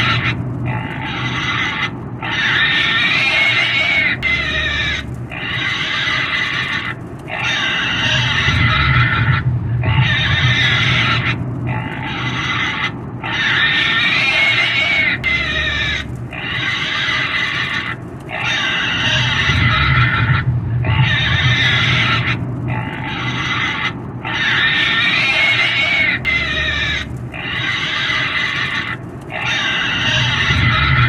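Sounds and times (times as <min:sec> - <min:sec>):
pig squealing: 0:00.0 - 0:31.0.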